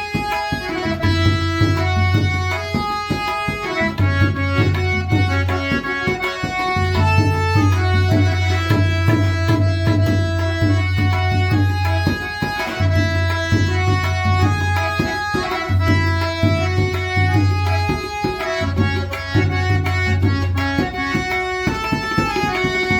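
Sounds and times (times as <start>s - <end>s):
harmonium melody: 0.0s - 22.9s
tabla strokes: 0.0s - 22.9s.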